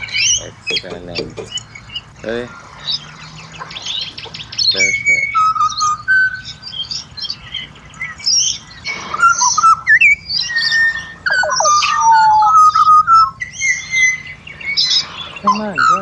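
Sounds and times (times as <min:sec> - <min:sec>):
birds singing fluted notes: 0:00.0 - 0:16.0
high-pitched bird calls: 0:00.0 - 0:16.0.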